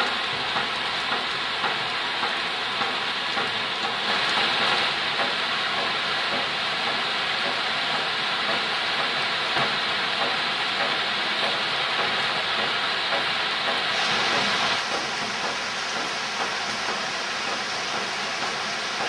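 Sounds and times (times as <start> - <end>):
heavy rain on foliage: 0.0 - 19.0.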